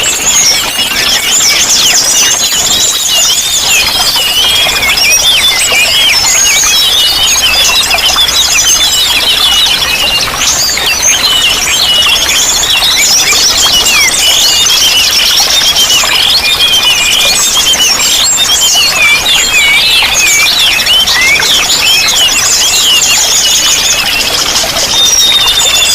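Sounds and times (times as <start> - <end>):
running water rushing: 0.0 - 25.9
songbirds chirping and trilling: 0.0 - 25.9.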